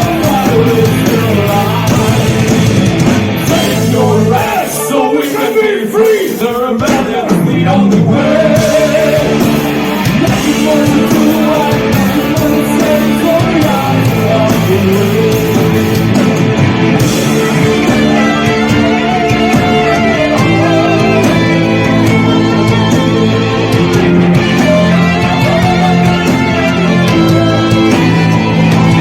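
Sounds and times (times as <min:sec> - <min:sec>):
person singing: 0:00.0 - 0:02.7, 0:03.4 - 0:16.2, 0:17.0 - 0:29.0
rock band playing: 0:00.0 - 0:29.0.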